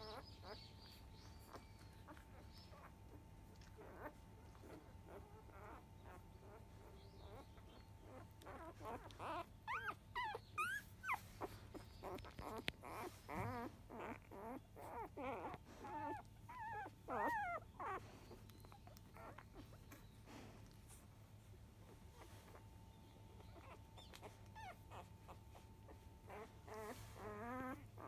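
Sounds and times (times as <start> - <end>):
puppies squeaking and whimpering: 0.0 - 28.0.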